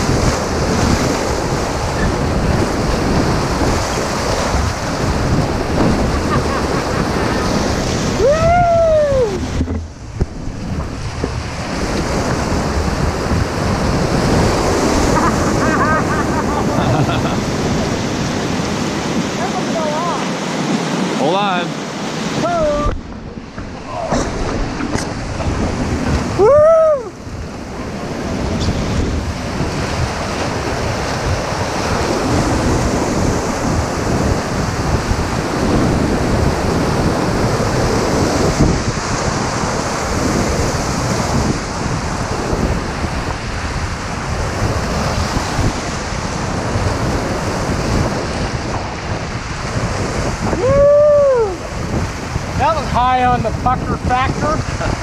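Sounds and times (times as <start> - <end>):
whitewater rushing: 0.0 - 55.0
wind buffeting microphone: 0.0 - 55.0.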